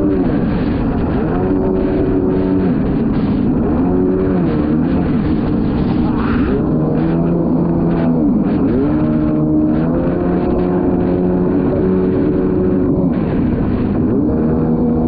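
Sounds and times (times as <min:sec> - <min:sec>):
jet ski engine revving: 0:00.0 - 0:15.0.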